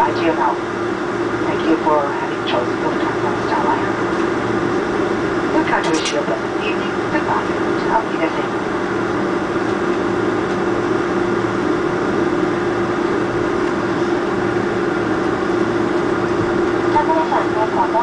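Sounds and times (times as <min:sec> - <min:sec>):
jet engines idling inside cabin: 0:00.0 - 0:18.0.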